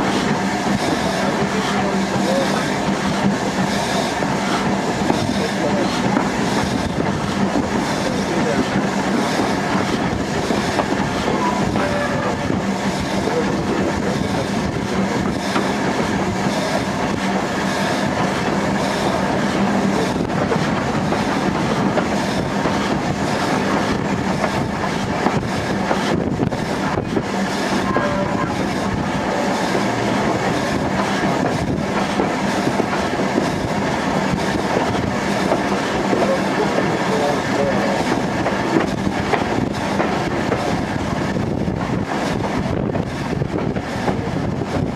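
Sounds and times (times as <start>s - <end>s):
train wheel and running noise: 0.0s - 44.9s.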